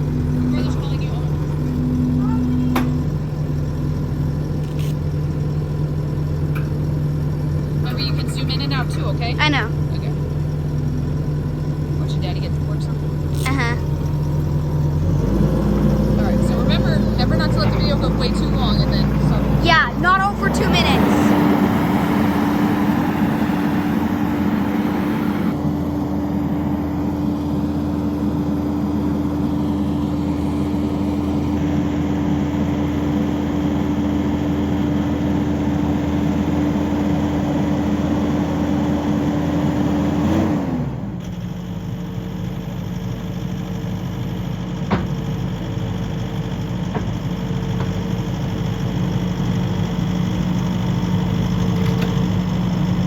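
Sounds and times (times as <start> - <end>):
skid steer engine running: 0.0 - 53.0.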